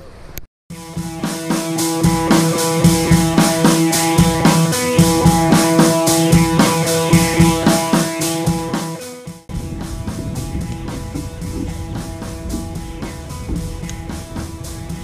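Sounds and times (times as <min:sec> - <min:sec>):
rock music: 0:00.7 - 0:15.0.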